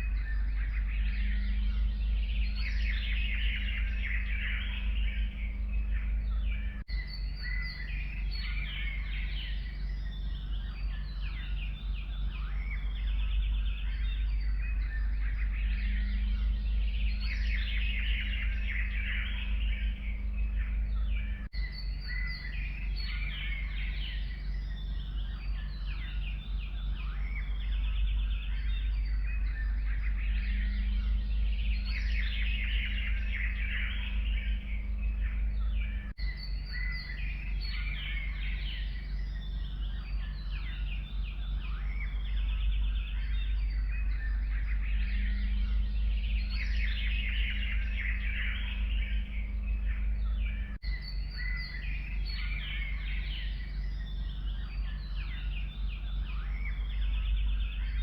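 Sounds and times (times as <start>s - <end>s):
songbirds chirping and singing: 0.0s - 58.0s
steady low rumble: 0.0s - 58.0s.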